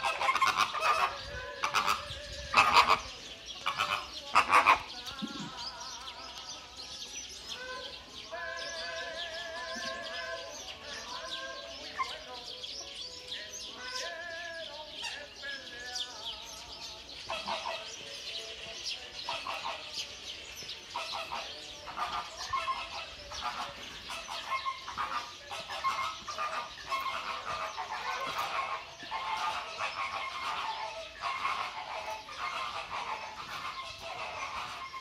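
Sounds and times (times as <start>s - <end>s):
high twittering of small birds: 0.0s - 35.0s.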